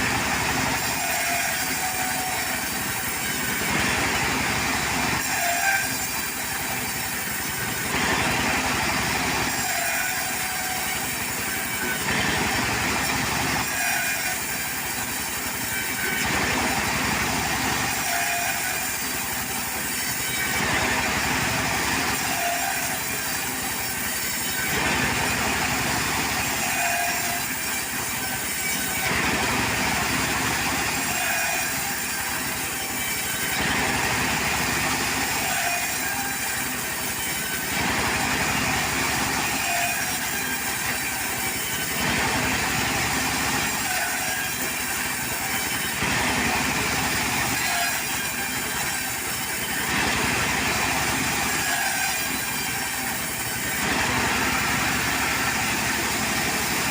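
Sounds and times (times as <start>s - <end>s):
portable sawmill running: 0.0s - 56.9s.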